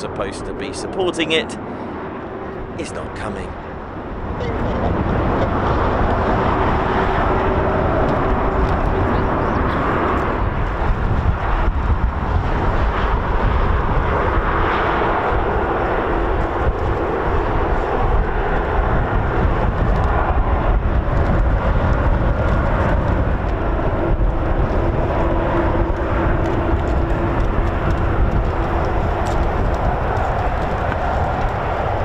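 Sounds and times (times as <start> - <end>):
jet engines taxiing: 0.0 - 32.0.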